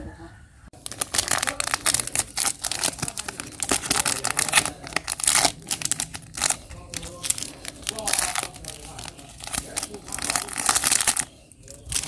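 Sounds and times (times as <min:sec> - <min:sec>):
hot oil crackling and spitting: 0:00.8 - 0:12.0.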